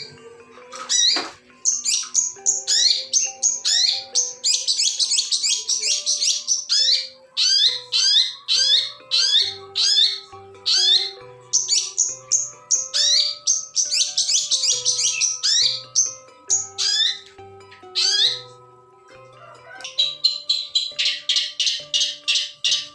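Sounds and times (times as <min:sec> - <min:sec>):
background music sustained notes: 0:00.0 - 0:22.9
bird singing sharp chirps: 0:00.8 - 0:18.6, 0:19.8 - 0:22.9.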